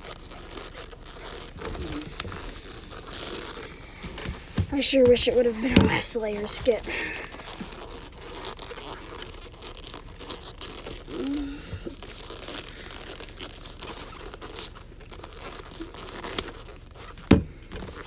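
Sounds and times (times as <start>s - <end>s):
boxing gloves rubbing and crinkling: 0.0s - 18.0s.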